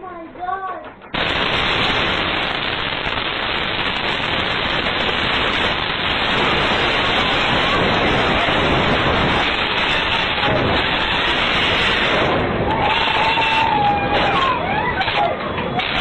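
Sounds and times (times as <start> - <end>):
dense crackling hiss: 0.2 - 14.4.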